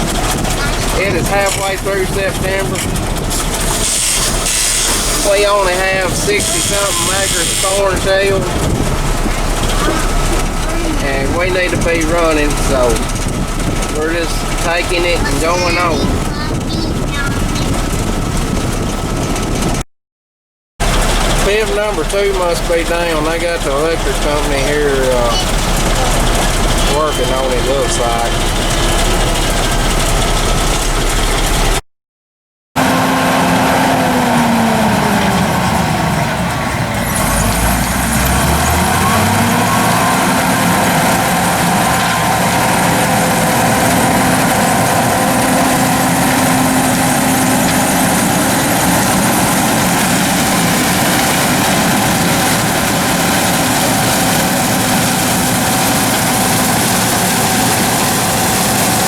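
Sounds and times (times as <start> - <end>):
vehicle engine running: 0.0 - 19.8, 20.8 - 31.8, 32.8 - 59.0.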